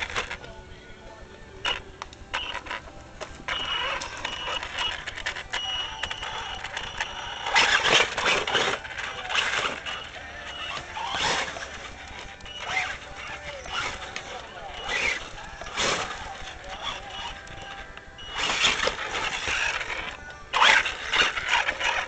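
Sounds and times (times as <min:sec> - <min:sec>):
electric motor whining: 0:00.0 - 0:00.6, 0:01.6 - 0:22.0.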